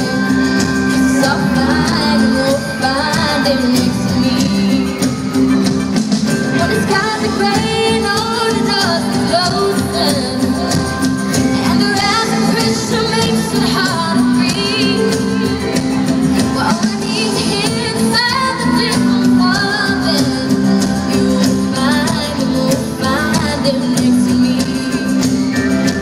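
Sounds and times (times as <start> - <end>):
live pop band playing: 0.0 - 26.0
woman singing: 0.0 - 26.0.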